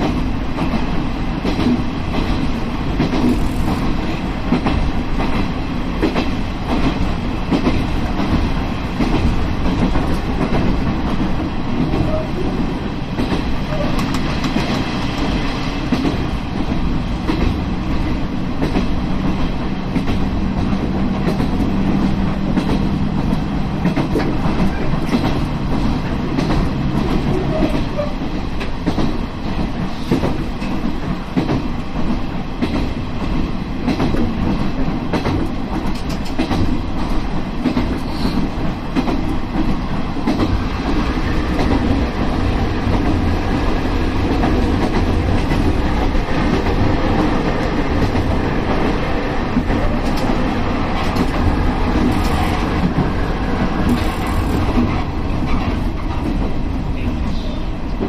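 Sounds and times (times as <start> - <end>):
diesel railcar engine drone: 0.0 - 58.0.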